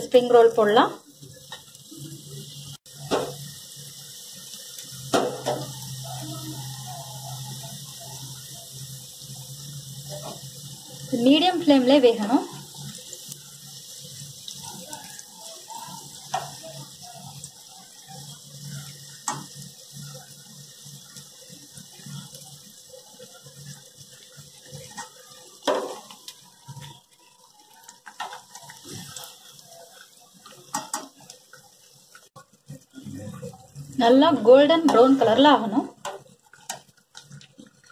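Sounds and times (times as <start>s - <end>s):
food deep-frying in hot oil: 0.0s - 37.9s.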